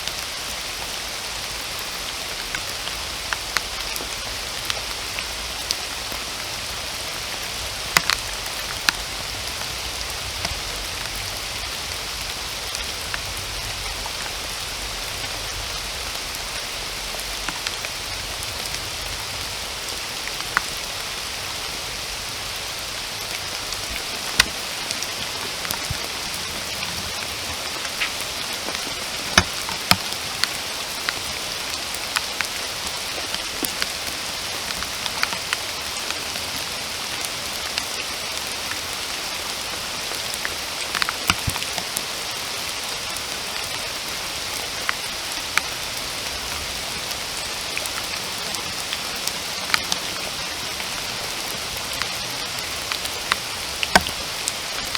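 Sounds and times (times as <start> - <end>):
close raindrops hitting: 0.0 - 54.9
steady rain hiss: 0.0 - 54.9.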